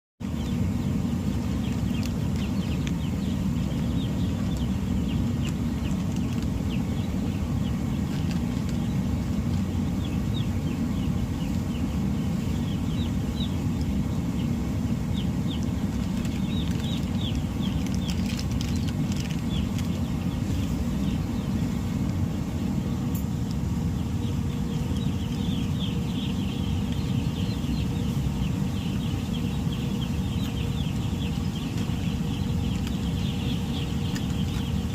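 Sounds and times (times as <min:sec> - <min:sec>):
chickens peeping: 0:00.2 - 0:34.9
steady low rumble: 0:00.2 - 0:34.9.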